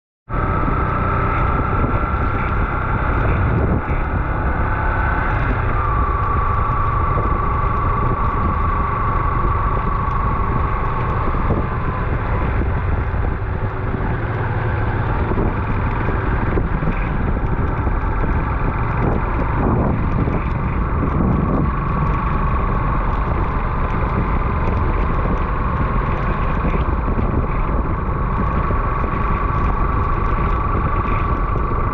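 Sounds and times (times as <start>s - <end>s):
road and vehicle noise: 0.3s - 31.9s
steady high whine: 0.3s - 31.9s
wind buffeting microphone: 0.3s - 31.9s.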